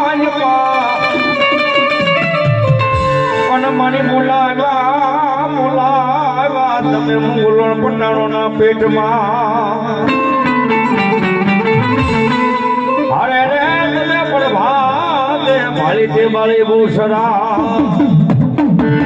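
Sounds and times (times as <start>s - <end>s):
wavering melody with vibrato: 0.0s - 19.0s.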